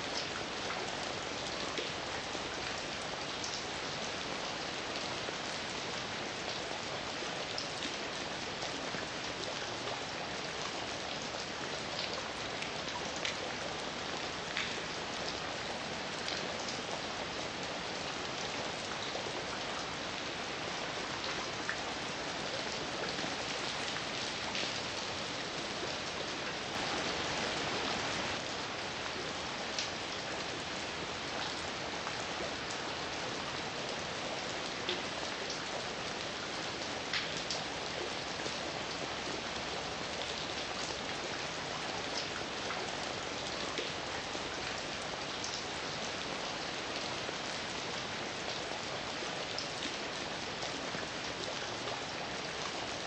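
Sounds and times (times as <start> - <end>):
raindrops ticking on a surface: 0.1 - 48.8.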